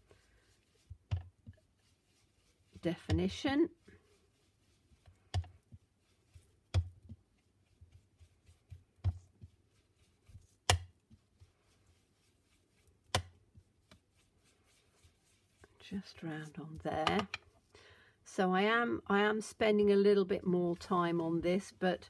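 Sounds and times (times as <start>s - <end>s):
faint ticks and rubbing: 0.0s - 17.7s.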